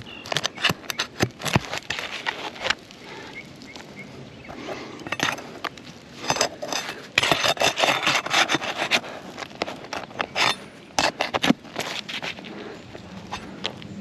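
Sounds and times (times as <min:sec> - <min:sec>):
tool scraping under roof shingles: 0:00.0 - 0:03.9, 0:04.5 - 0:13.8.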